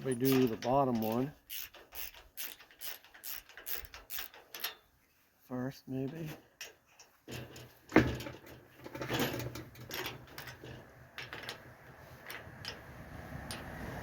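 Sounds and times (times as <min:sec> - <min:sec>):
clicks and rattles: 0:00.0 - 0:04.9, 0:06.1 - 0:12.9.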